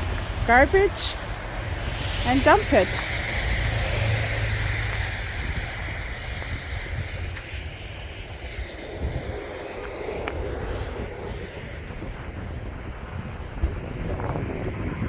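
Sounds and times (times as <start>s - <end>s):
vehicle passing on road: 0.0s - 15.0s
wind rumble on microphone: 0.0s - 15.0s.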